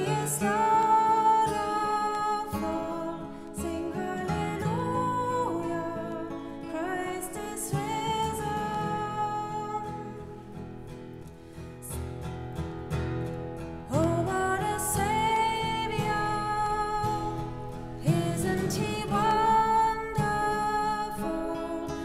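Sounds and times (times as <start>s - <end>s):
woman singing long notes: 0.0s - 10.4s, 13.9s - 22.0s
acoustic guitar picked: 0.0s - 22.0s.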